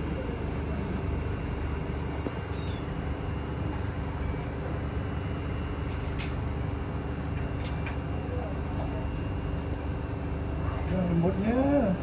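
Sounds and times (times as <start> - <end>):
faint high whine: 0.0 - 12.0
train car hum and rumble: 0.0 - 12.0.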